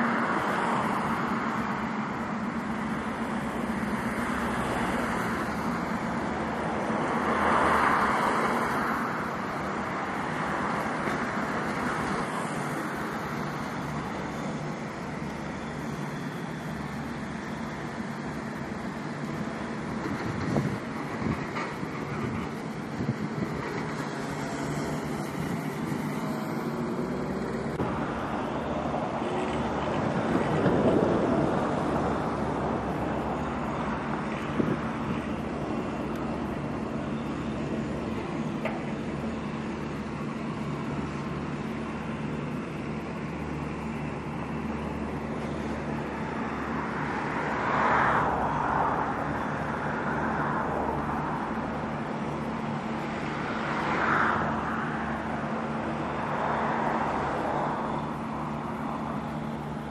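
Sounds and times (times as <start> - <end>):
road traffic: 0.0 - 59.9
vehicle running noise: 0.0 - 59.9.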